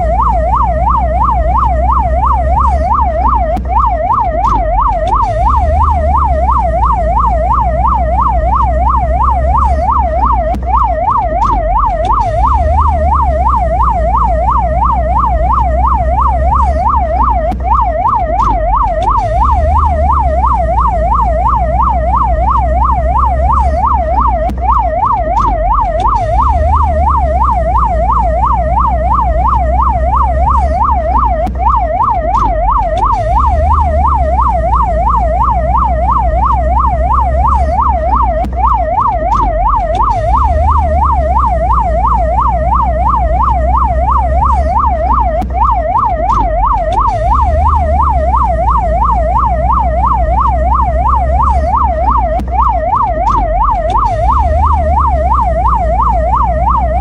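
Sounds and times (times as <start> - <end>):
ambulance siren yelping: 0.0 - 57.0.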